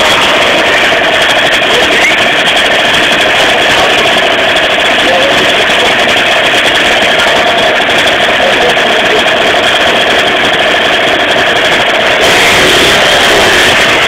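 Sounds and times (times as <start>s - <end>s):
two-stroke moped engine running: 0.0s - 14.0s.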